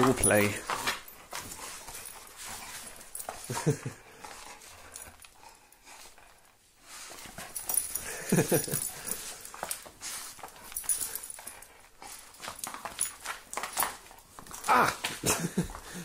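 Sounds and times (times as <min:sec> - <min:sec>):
rope toy scuffling and rustling: 0:00.0 - 0:15.9.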